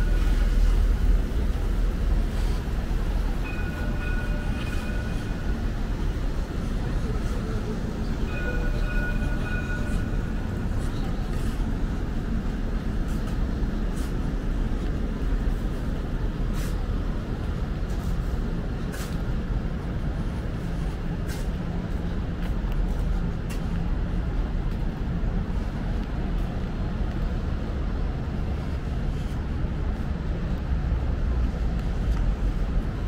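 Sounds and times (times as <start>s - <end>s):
city street low rumble: 0.0s - 33.0s.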